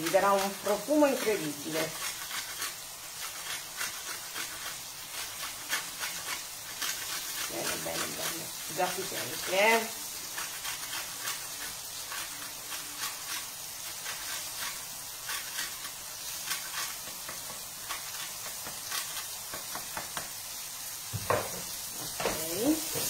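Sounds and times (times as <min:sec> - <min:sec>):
utensil scraping a pan: 0:00.0 - 0:20.4, 0:21.2 - 0:23.0
zucchini sizzling in a pan: 0:00.0 - 0:23.0.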